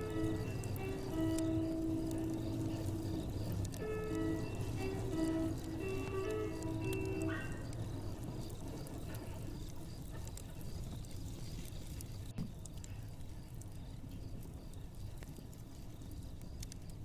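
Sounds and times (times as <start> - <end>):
low steady rumble: 0.0 - 16.8
fireplace crackling: 0.0 - 17.0.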